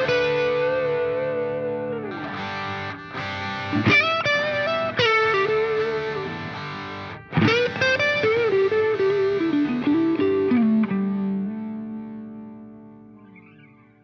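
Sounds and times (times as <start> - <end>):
distorted electric guitar melody: 0.0 - 14.0.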